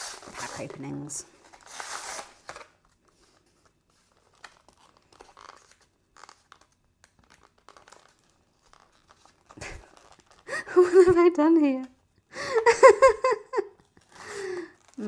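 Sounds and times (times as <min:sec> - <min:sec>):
plastic packaging crinkling and tearing: 0:00.0 - 0:12.2, 0:13.5 - 0:15.0.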